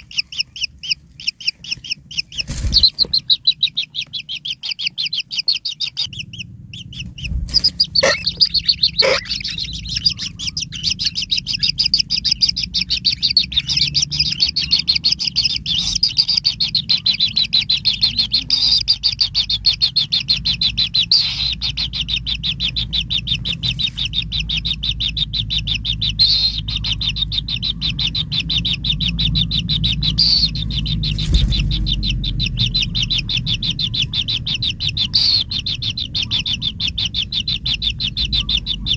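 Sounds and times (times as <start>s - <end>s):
low steady hum: 0.0s - 38.9s
nestlings begging chirps: 0.0s - 38.9s.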